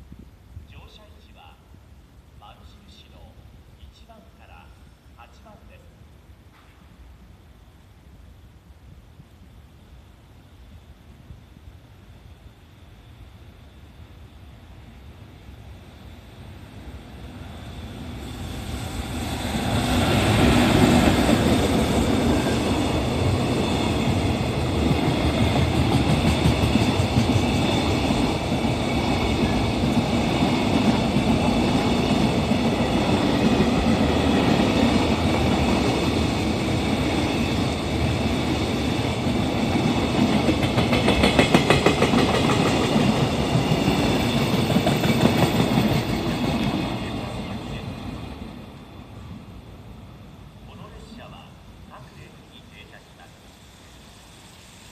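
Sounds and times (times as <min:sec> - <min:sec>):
freight train passing: 0:02.3 - 0:06.0, 0:10.9 - 0:54.9.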